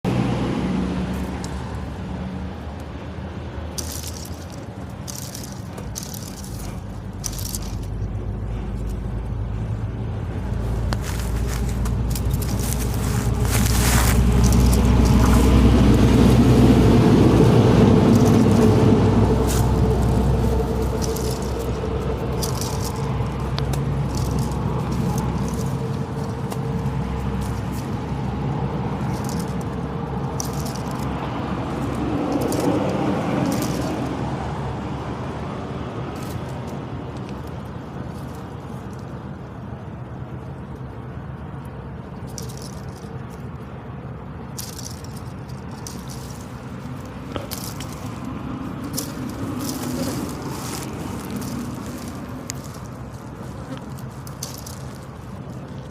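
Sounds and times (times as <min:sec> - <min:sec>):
steady low rumble: 0:00.0 - 0:55.9
buffalo ears flapping: 0:03.7 - 0:39.1, 0:44.4 - 0:55.9.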